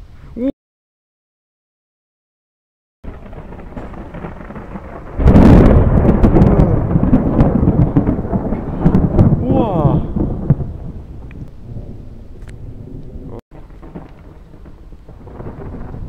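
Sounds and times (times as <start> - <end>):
thunder crack and rumble: 3.0 - 16.0.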